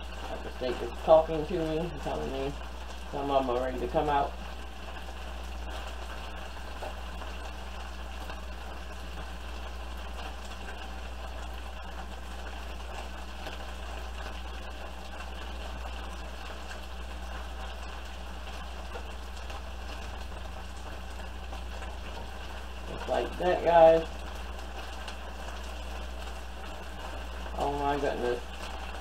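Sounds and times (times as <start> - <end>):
meat sizzling in a skillet: 0.0 - 29.0.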